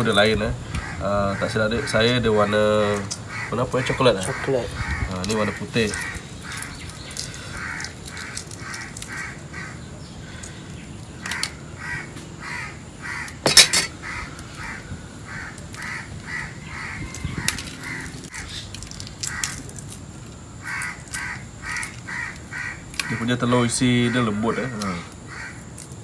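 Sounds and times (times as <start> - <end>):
eggshells cracking: 1.9 - 12.3, 13.0 - 26.0.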